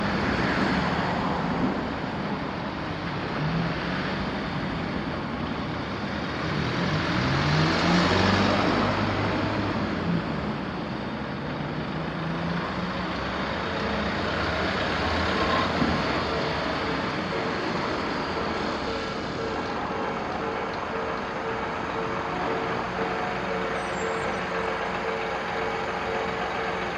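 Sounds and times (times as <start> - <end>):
cars and trucks passing: 0.0 - 26.9.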